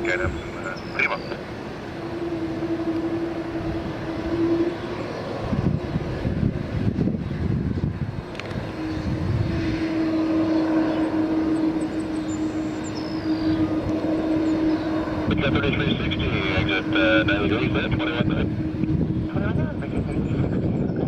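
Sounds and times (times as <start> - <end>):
jet engine rough rumble: 0.0 - 21.0
jet engines steady tone: 0.0 - 21.0.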